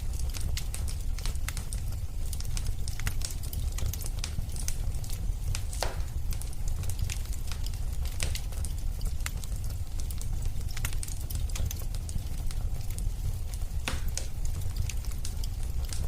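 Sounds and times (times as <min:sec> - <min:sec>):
fire crackles and pops: 0:00.0 - 0:16.0
fire flames rumbling: 0:00.0 - 0:16.0.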